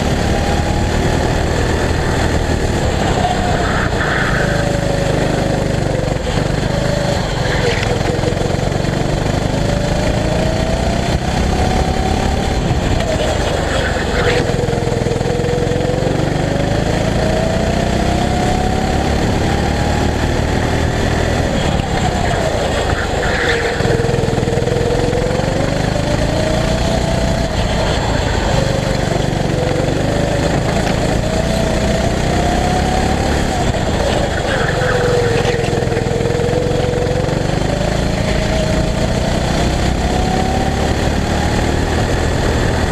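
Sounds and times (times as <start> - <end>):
go-kart engine accelerating: 0.0 - 42.9.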